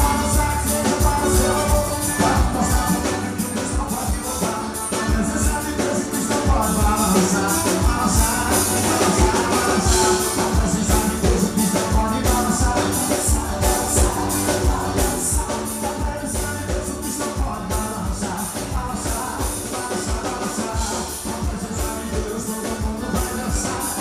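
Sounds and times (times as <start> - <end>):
steady drum beat: 0.0 - 24.0
upbeat band music: 0.0 - 24.0.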